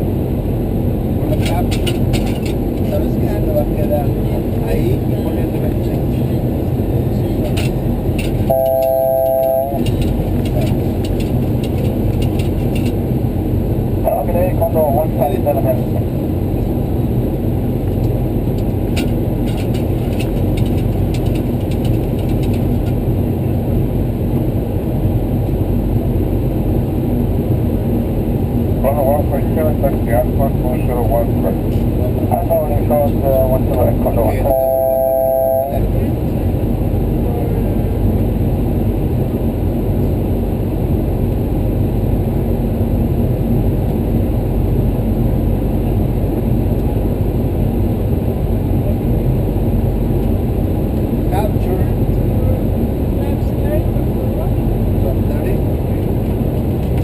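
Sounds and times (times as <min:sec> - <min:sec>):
aircraft engine rumble: 0:00.0 - 0:57.0.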